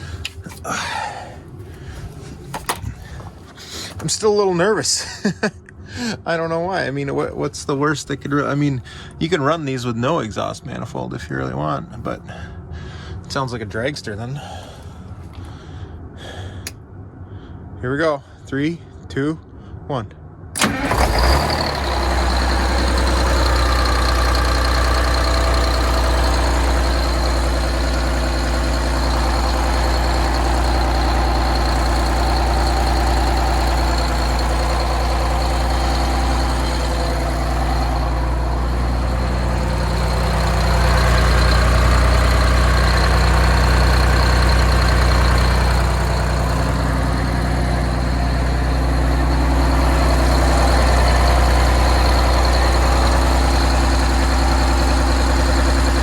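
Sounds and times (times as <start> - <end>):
diesel engine idling: 0.0 - 17.8, 20.5 - 56.0.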